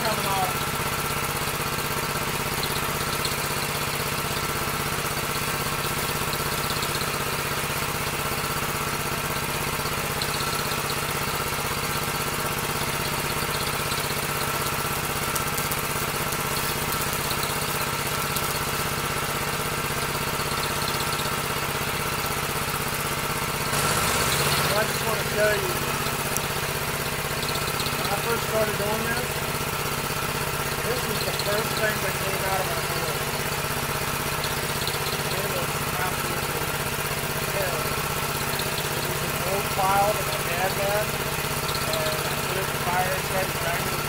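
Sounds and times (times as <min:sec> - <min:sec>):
small engine droning: 0:00.0 - 0:44.0.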